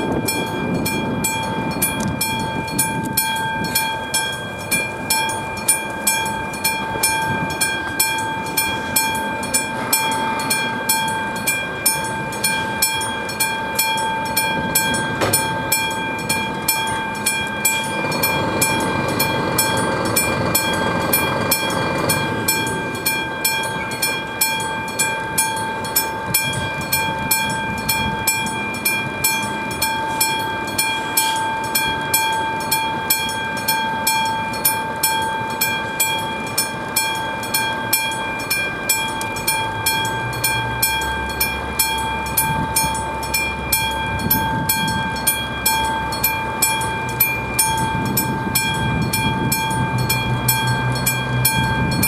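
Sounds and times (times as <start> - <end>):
level crossing bell ringing: 0.0 - 52.0
low engine rumble: 0.0 - 52.0.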